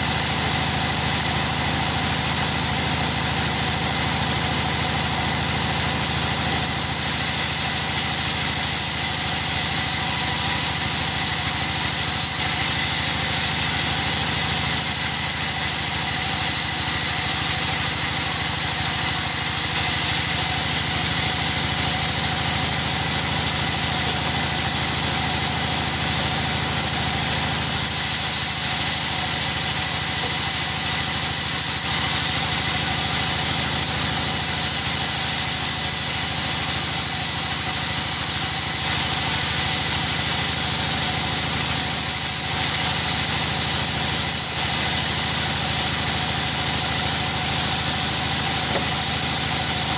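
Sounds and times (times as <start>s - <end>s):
machine motor whining and humming: 0.0s - 49.9s.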